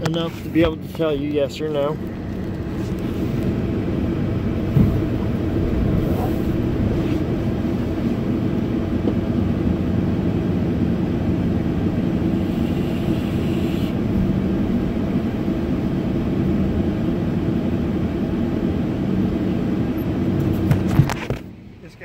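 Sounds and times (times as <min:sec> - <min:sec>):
car engine and tyre hum: 0:00.0 - 0:22.0.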